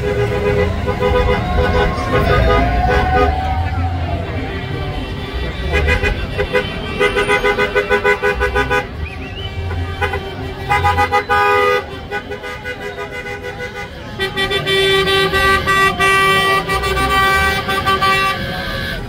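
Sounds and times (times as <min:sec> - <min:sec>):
car horns tooting: 0:00.0 - 0:19.0
crowd noise: 0:00.0 - 0:19.0
low engine rumble: 0:00.0 - 0:19.0.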